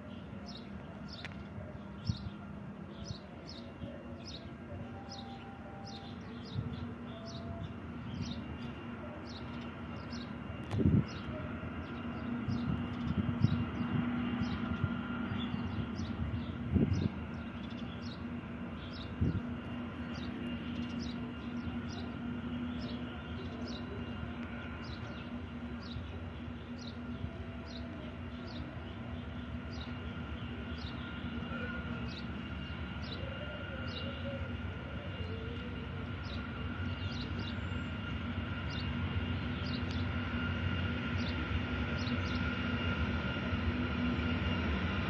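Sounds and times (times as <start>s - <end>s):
distant freight train rolling: 0.0s - 45.0s.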